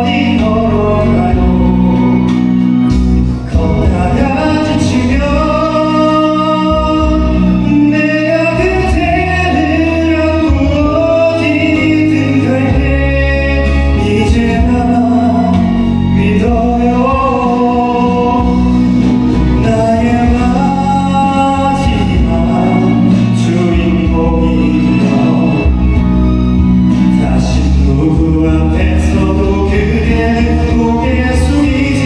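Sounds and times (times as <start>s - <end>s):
man singing a slow ballad: 0.0s - 32.0s
musical accompaniment: 0.0s - 32.0s.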